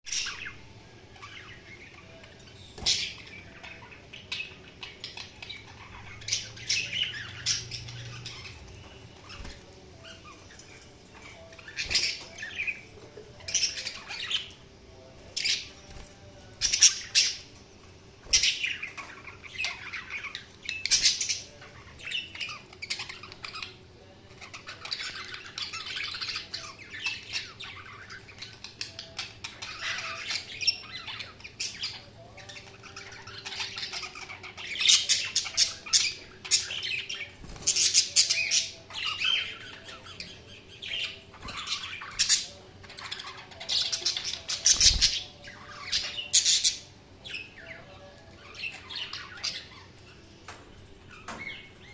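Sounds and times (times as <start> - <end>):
budgies chirping and squawking: 0.1 - 51.9.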